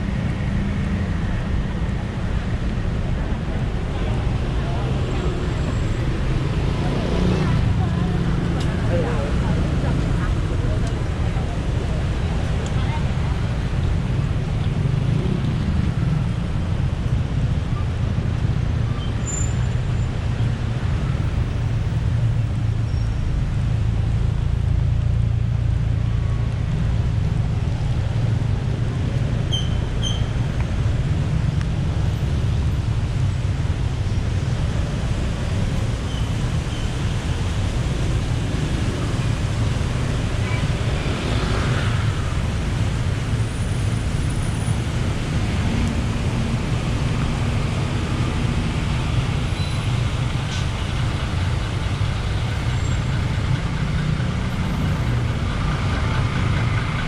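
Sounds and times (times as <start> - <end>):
city street traffic rumble: 0.0 - 57.0.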